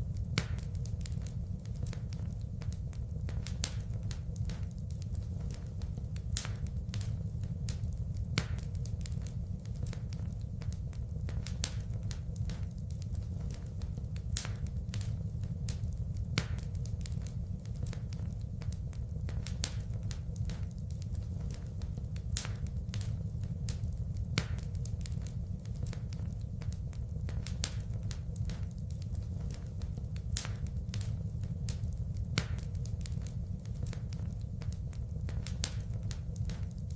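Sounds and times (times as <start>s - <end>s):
low rumble of flames: 0.0s - 36.9s
wood fire crackling and popping: 0.0s - 36.9s.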